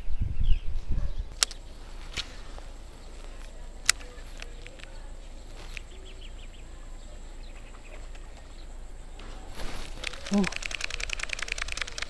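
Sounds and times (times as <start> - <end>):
faint high chirps: 1.0 - 12.0.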